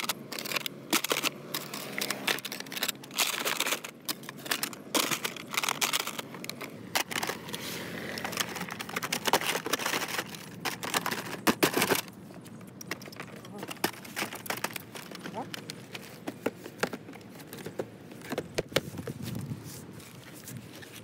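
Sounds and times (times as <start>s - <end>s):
crinkling: 0.0s - 21.0s.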